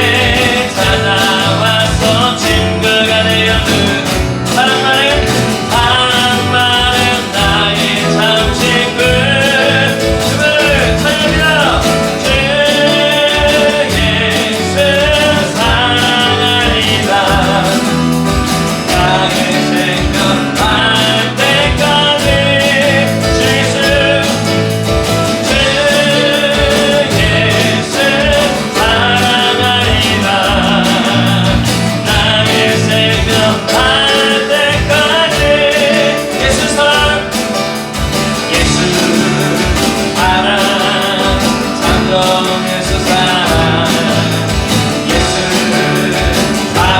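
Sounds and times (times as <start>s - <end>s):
acoustic guitar: 0.0s - 46.9s
bass guitar: 0.0s - 46.9s
electronic drums beat: 0.0s - 46.9s
keyboard: 0.0s - 46.9s
person singing: 0.0s - 46.9s.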